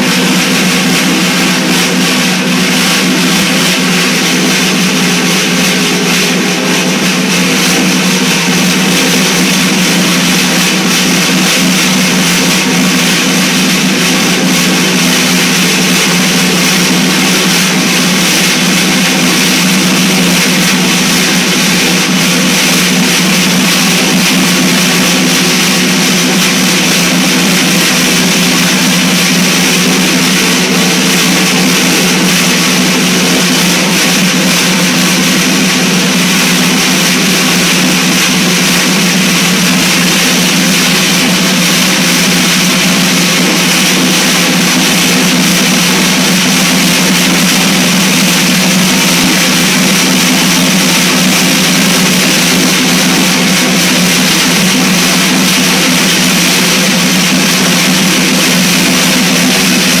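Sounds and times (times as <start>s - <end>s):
snare drum roll: 0.0s - 60.0s.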